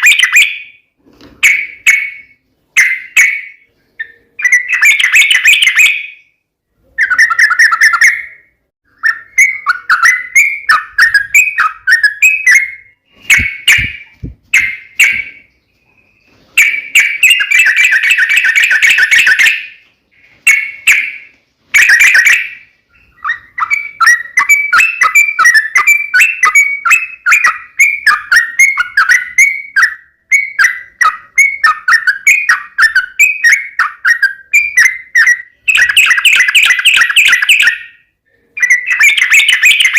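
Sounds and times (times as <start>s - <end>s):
bulbul calling: 0.0s - 0.8s, 1.4s - 39.9s.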